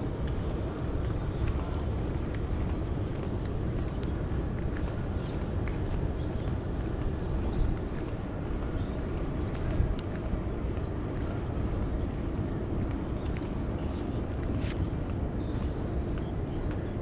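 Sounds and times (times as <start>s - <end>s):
low urban rumble: 0.0s - 17.0s.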